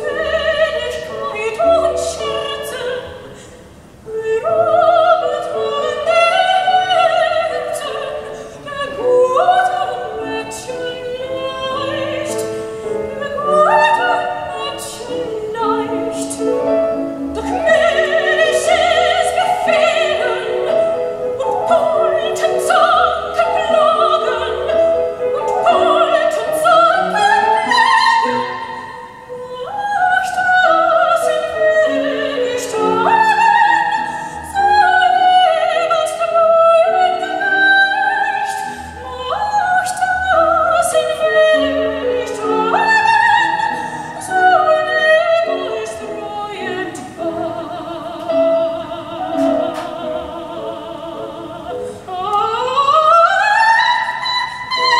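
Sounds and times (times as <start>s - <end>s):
classical music with singing voice: 0.0s - 54.9s.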